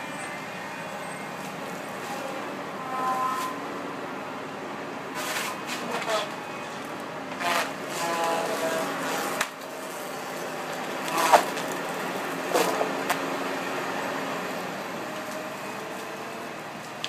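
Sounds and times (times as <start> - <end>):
heavy machine engine and hydraulics: 0.0 - 17.0.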